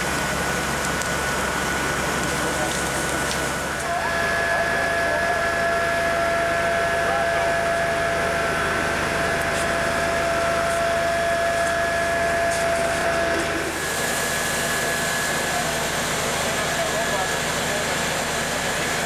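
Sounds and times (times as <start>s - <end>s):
fire engine pump whine: 0.0s - 19.0s.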